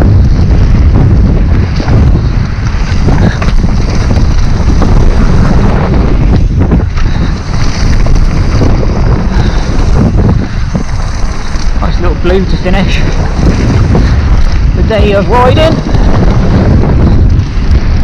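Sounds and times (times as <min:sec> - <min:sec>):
bike rattling over stones: 0:00.0 - 0:18.0
bike tyres on dirt trail: 0:00.0 - 0:18.0
wind buffeting microphone: 0:00.0 - 0:18.0.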